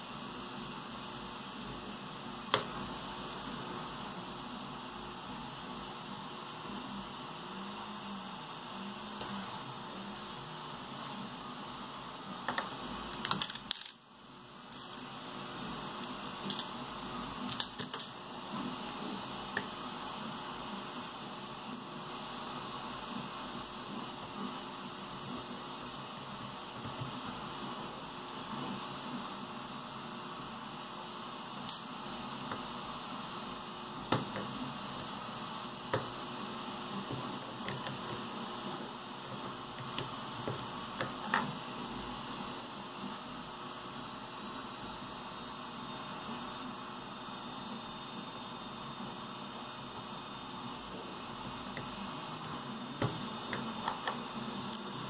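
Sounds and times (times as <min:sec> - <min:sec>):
background hiss and hum: 0:00.0 - 0:55.0.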